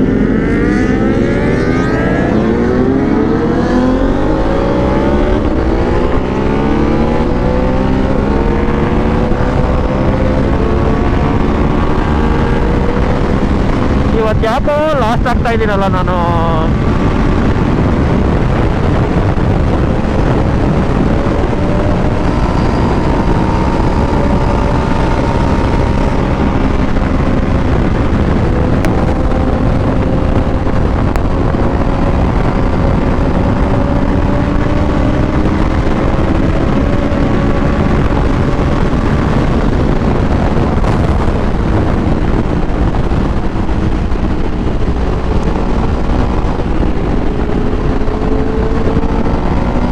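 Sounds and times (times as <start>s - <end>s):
motorcycle engine at speed: 0.0s - 49.9s
wind rush on microphone: 0.0s - 49.9s.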